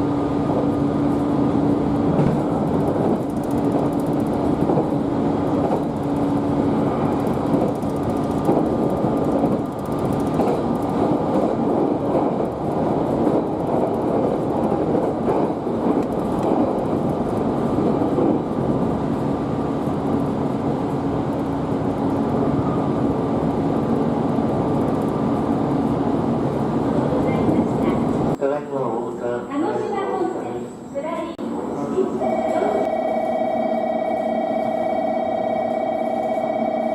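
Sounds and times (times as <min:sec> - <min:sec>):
train rumbling: 0:00.0 - 0:36.9.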